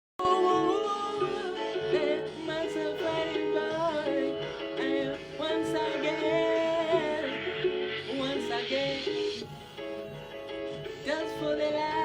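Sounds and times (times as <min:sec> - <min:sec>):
gliding melody line: 0:00.2 - 0:12.0.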